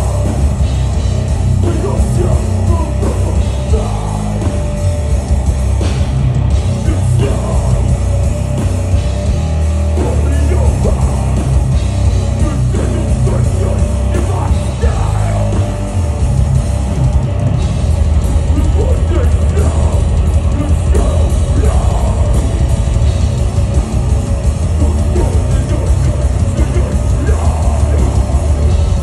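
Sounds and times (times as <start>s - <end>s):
metal band playing live: 0.0s - 29.0s.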